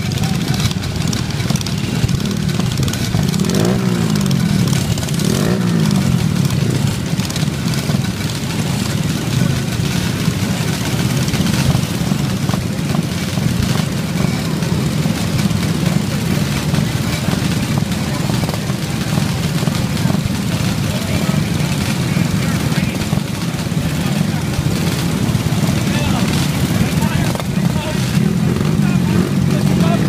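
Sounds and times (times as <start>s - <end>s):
engine revving: 0.0s - 30.0s
small engines running: 0.0s - 30.0s.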